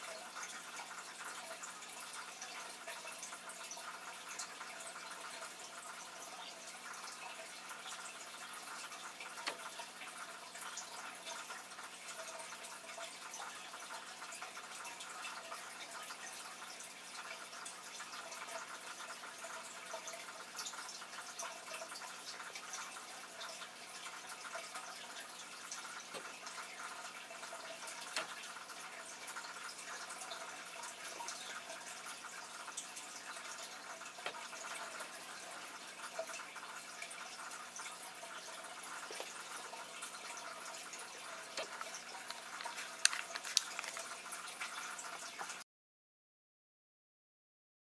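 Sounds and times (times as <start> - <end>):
aquarium water trickling: 0.0 - 45.6.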